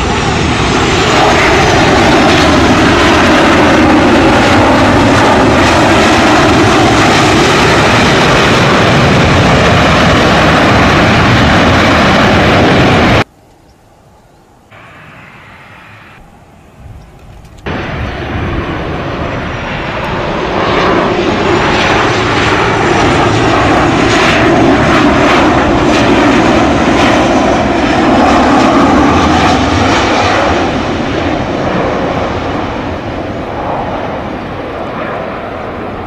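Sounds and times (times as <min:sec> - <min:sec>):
jet engines roaring: 0:00.0 - 0:13.3, 0:14.5 - 0:36.0.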